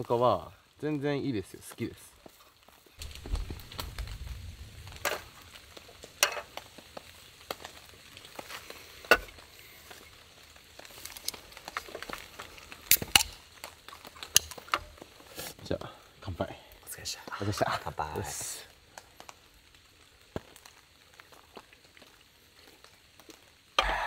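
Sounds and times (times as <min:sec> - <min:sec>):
sharp crackles and pops: 0:00.0 - 0:24.0
sizzling hiss: 0:00.0 - 0:24.0.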